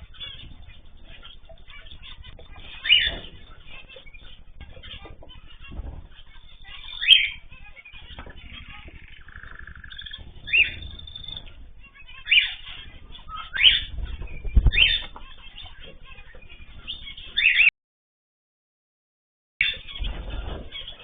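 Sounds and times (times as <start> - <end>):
low background rumble: 0.0 - 17.4
cage birds calling: 0.0 - 17.7, 19.6 - 21.0.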